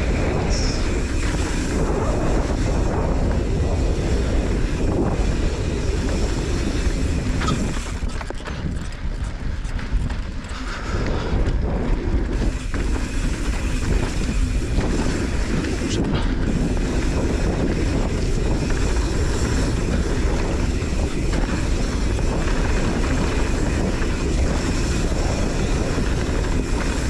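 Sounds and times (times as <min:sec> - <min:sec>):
bike clicks and knocks: 0:00.0 - 0:27.0
bike tyres rolling on rocky trail: 0:00.0 - 0:27.0
wind buffeting microphone: 0:00.0 - 0:27.0.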